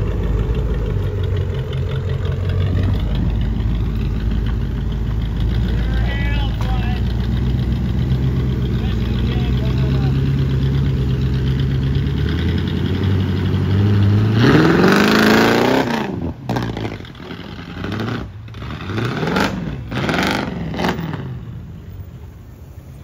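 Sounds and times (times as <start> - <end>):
pickup engine revving: 0.0 - 22.0.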